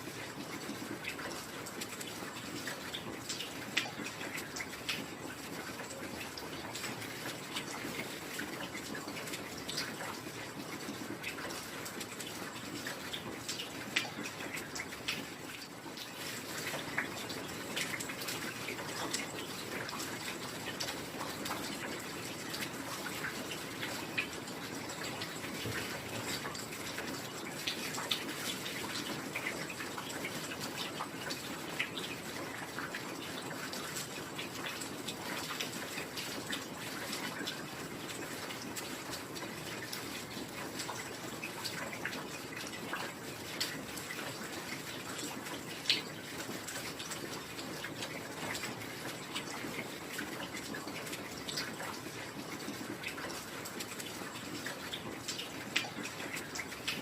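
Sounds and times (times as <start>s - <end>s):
heavy rain: 0.0s - 57.0s
water dripping: 0.0s - 57.0s.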